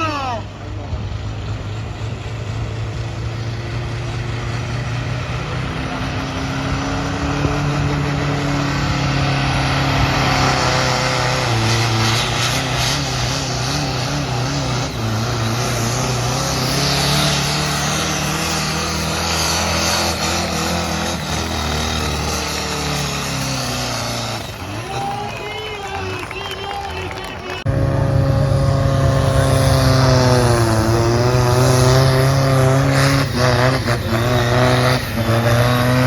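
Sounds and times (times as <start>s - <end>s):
tractor engine at high revs: 0.0s - 36.0s.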